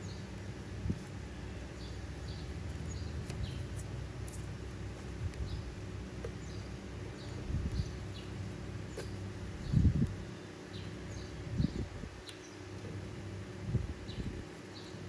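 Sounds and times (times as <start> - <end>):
birds chirping: 0.0 - 0.4, 1.5 - 15.0
steady low rumble: 0.0 - 14.6.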